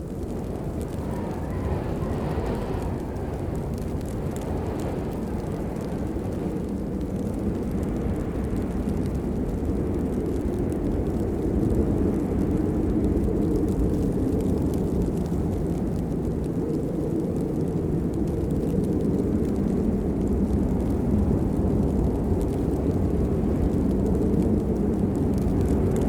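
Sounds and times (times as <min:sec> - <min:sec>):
heavy rain rushing: 0:00.0 - 0:26.0
raindrop ticks: 0:00.0 - 0:26.0.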